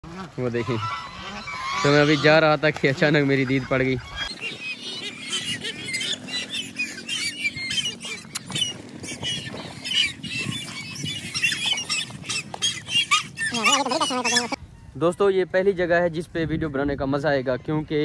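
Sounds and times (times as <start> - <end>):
birds chorus of squeaky calls: 0.3 - 15.8.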